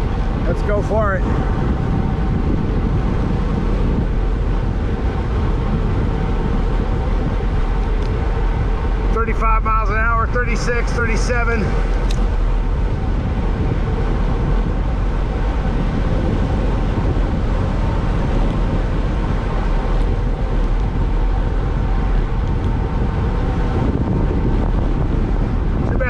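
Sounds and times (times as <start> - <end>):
low even rumble: 0.0 - 26.0
wind rushing on microphone: 0.0 - 26.0.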